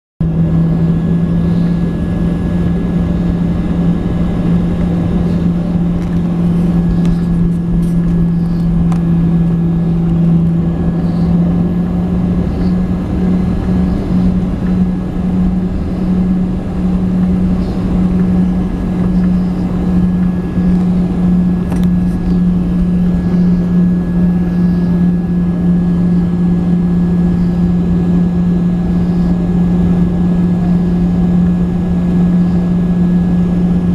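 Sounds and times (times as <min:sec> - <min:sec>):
jet engine cabin drone: 0:00.2 - 0:33.9.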